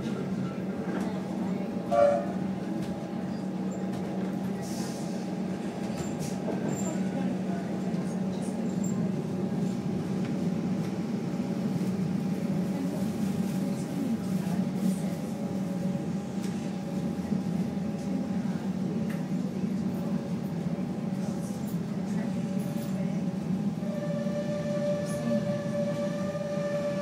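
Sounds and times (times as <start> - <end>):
electrical hum in train carriage: 0.0 - 27.0.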